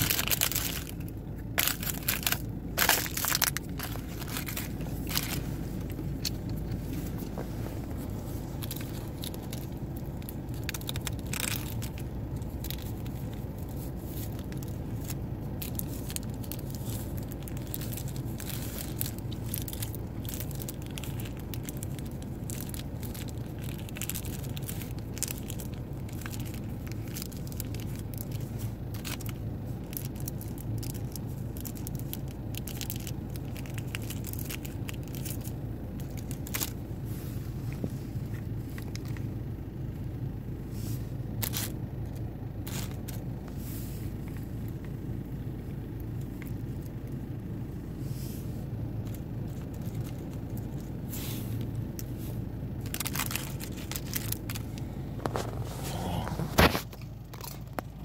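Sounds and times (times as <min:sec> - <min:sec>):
chewing and crunching crackers: 0:00.0 - 0:06.7, 0:08.6 - 0:36.9, 0:37.8 - 0:39.6, 0:41.3 - 0:43.4, 0:48.7 - 0:58.0
low hum: 0:00.0 - 0:58.0.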